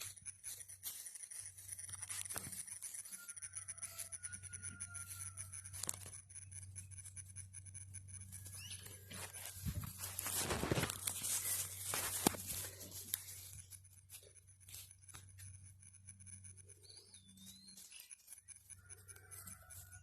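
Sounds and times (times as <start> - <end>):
light scratches: 0.0 - 20.0.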